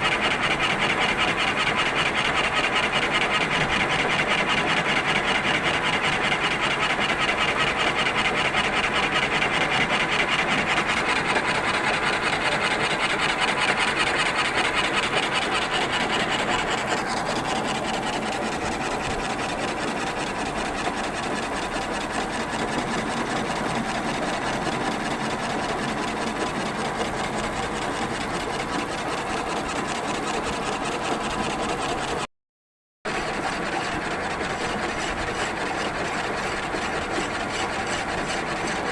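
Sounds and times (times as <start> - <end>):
lathe cutting tool scraping: 0.0 - 32.3, 33.1 - 38.9.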